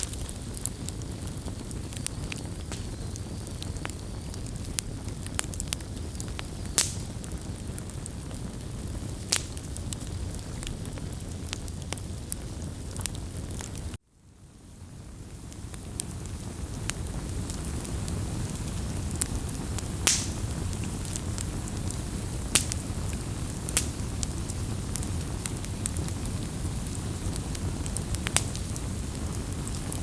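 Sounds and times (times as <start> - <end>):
fire crackling and popping: 0.0 - 30.0
flames rumbling: 0.0 - 30.0.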